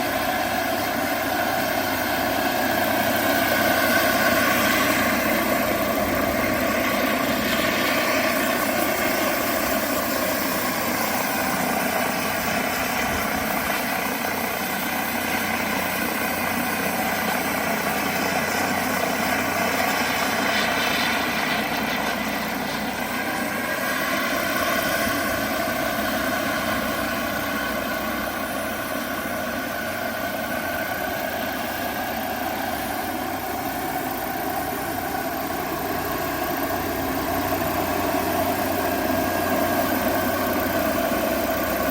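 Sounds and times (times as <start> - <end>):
turbine whine: 0.0 - 41.9.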